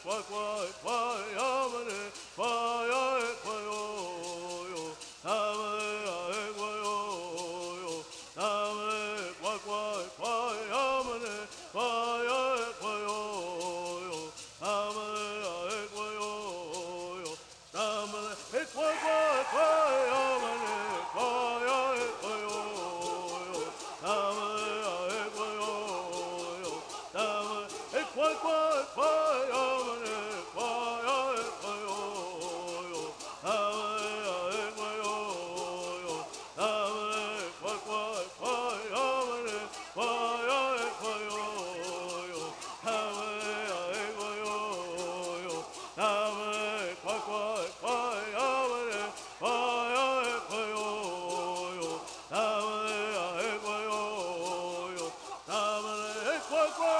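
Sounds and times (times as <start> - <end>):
hand rattles shaking: 0.0 - 56.9
men singing in unison: 0.0 - 56.9.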